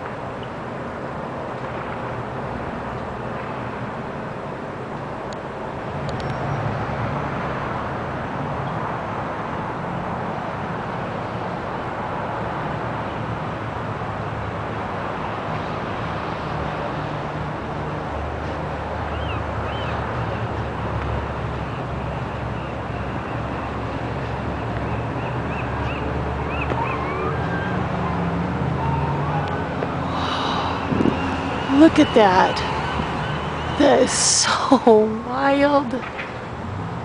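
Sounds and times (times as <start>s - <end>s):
traffic noise: 0.0s - 37.0s.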